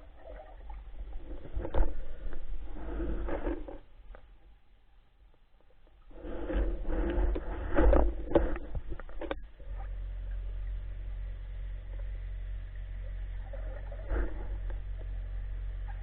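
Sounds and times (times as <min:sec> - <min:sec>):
low underwater rumble: 0:00.0 - 0:05.0, 0:05.6 - 0:16.0.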